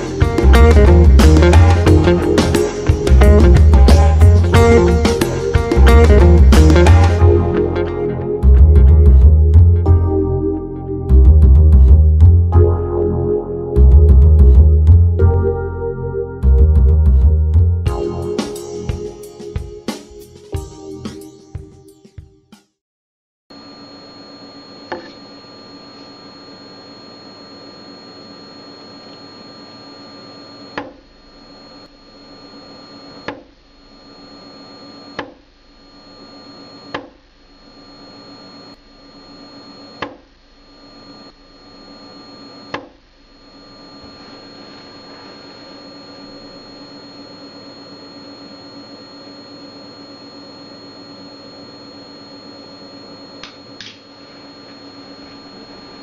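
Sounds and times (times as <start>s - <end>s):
electrical hum with high whine: 0.0s - 17.3s, 23.5s - 56.0s.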